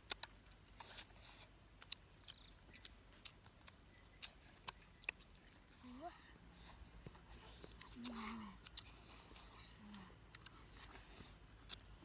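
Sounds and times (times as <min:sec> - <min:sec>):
lip smacks: 0:00.0 - 0:05.3, 0:07.1 - 0:11.9
chewing: 0:00.0 - 0:06.0, 0:06.6 - 0:12.0.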